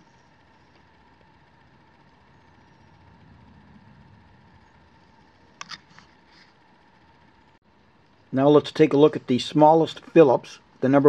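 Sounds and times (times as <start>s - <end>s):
thin steady whine: 0.0s - 11.0s.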